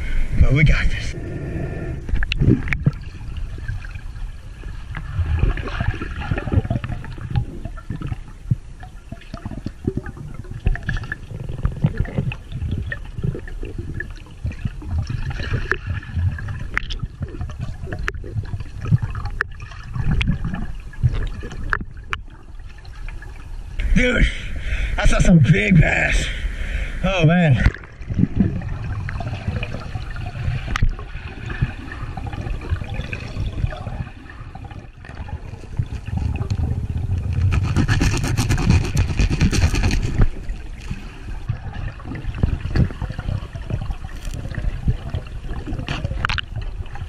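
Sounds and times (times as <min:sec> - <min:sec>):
bubbling: 0:00.0 - 0:24.9, 0:26.6 - 0:47.0
underwater sloshing and gurgling: 0:00.0 - 0:47.0.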